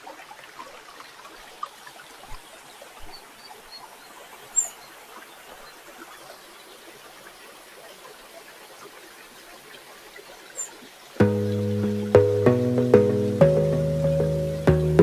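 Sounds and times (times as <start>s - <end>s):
flowing water: 0.0s - 15.0s.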